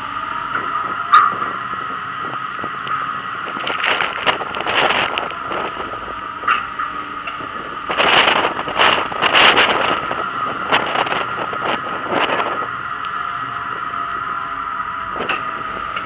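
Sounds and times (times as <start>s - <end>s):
wind buffeting camera: 0.0s - 14.3s, 15.0s - 16.0s
seawater washing across deck: 0.0s - 16.0s
steady high-pitched hum: 0.0s - 16.0s.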